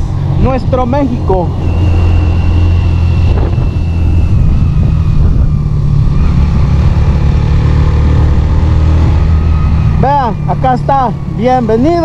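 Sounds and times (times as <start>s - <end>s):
wind noise on microphone: 0.0s - 10.6s
motorcycle engine cruising: 0.0s - 12.0s.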